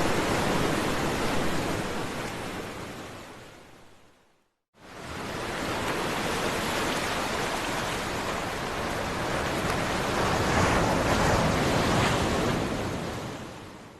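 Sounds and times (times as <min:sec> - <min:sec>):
ocean surf waves: 0:00.0 - 0:13.9.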